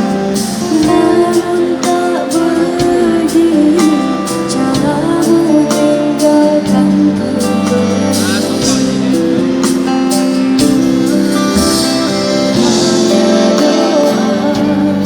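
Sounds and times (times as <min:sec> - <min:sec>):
live band music: 0:00.0 - 0:15.0
person singing: 0:00.0 - 0:15.0.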